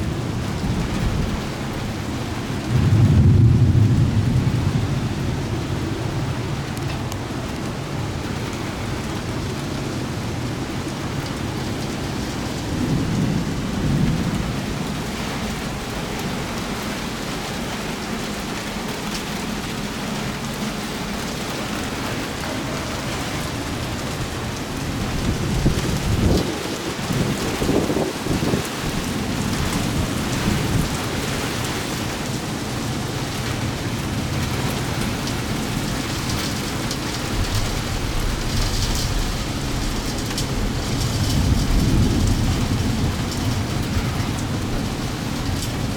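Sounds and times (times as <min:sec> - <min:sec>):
heavy rain: 0:00.0 - 0:45.9
thunder rumbling: 0:00.0 - 0:45.9.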